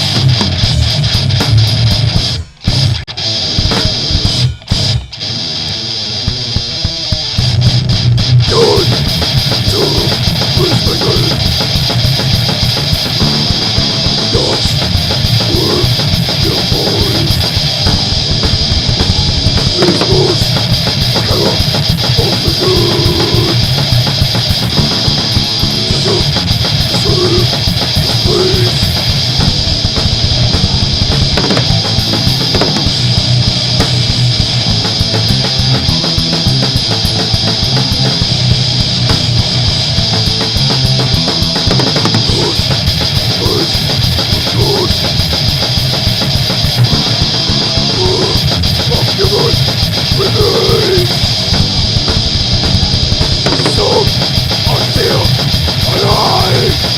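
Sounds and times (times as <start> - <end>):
heavy metal band playing: 0.0 - 56.9.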